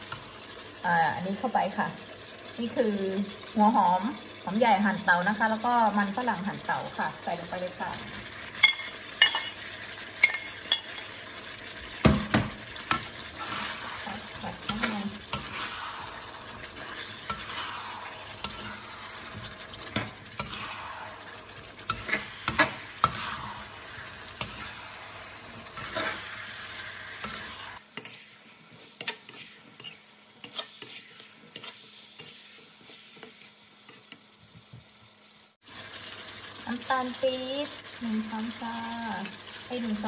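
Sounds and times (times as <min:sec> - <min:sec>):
food sizzling in a wok: 0:00.0 - 0:40.0.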